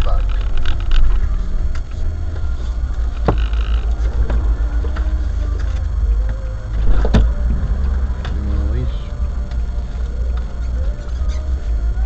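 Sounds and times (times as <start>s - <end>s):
vehicle idling: 0.0s - 12.0s.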